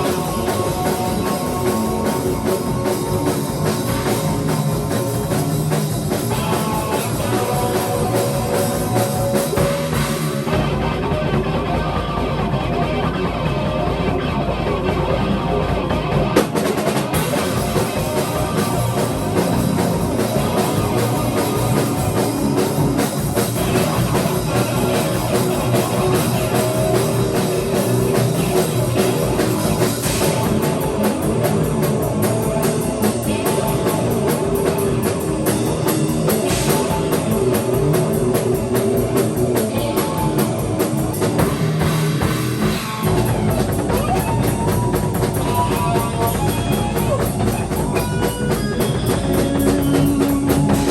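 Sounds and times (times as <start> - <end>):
drum kit kick pattern: 0.0 - 50.9
electric guitar: 0.0 - 50.9.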